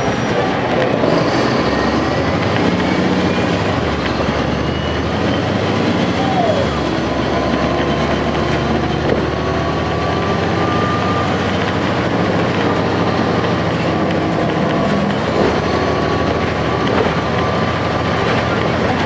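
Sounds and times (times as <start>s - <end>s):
bus diesel drone: 0.0s - 19.0s.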